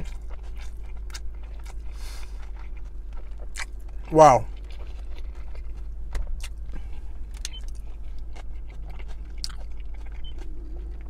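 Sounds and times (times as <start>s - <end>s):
person chewing food: 0.0s - 11.0s
steady low hum: 0.0s - 11.0s.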